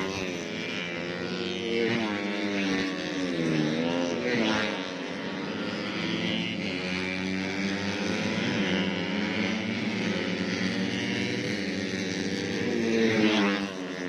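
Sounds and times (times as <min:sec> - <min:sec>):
motorcycle engines at high revs: 0:00.0 - 0:14.0.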